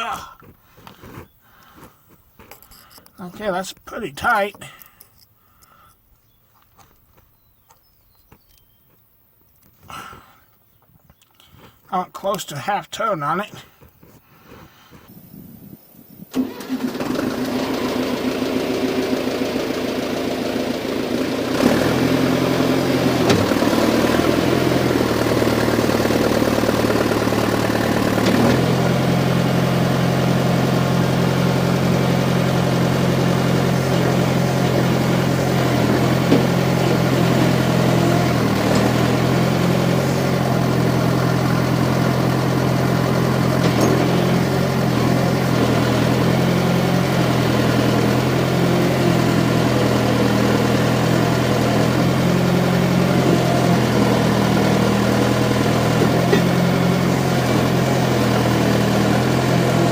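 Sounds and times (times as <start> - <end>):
loader engine idling: 0.0 - 6.4, 16.3 - 59.9.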